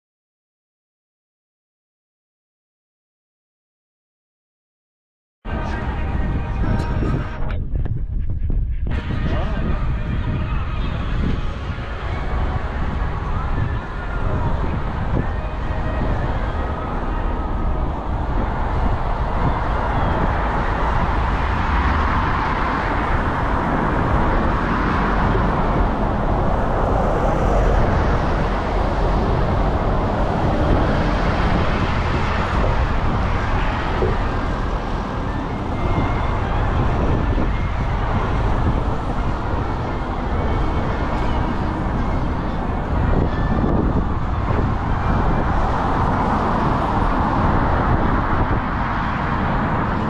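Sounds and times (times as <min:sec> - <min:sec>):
wind rumble on microphone: 0:05.5 - 0:50.0
cars passing: 0:08.9 - 0:50.0.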